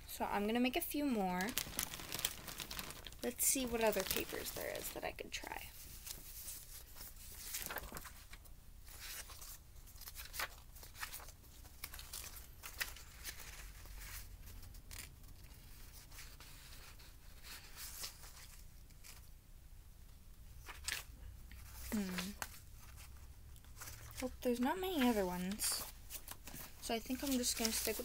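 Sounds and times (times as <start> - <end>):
paper rustling and crinkling: 1.2 - 19.3, 20.6 - 28.0.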